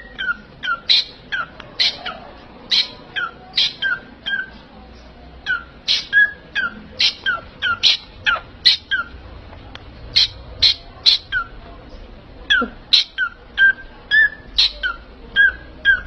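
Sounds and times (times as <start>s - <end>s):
parrot squawking: 0.0s - 4.6s, 5.4s - 9.2s, 10.1s - 11.6s, 12.5s - 16.0s.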